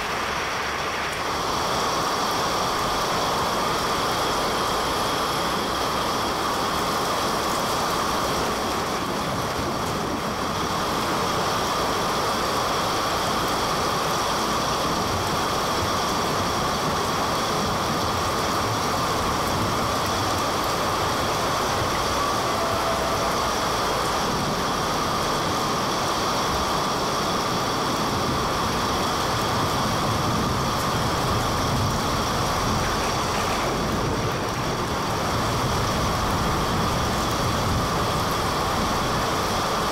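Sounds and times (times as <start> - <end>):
vehicle rumble and hiss: 0.0 - 39.9.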